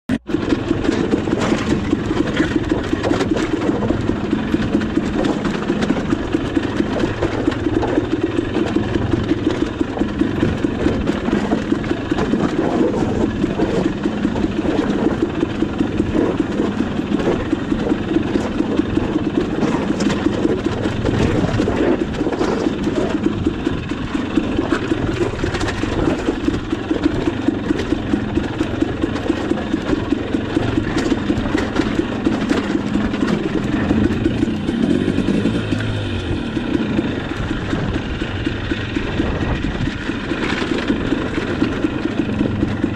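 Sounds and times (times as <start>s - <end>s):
dirt bike engine chugging: 0.1s - 42.9s.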